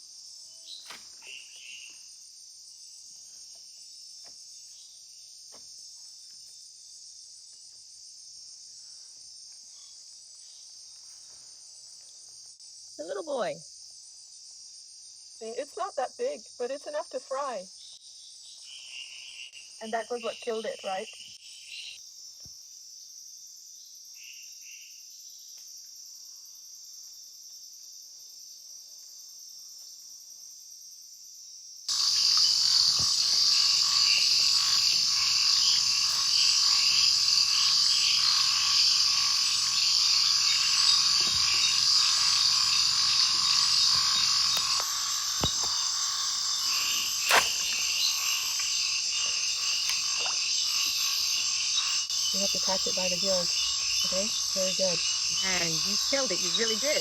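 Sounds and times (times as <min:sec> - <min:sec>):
frogs croaking and insects trilling: 0:00.0 - 0:57.0.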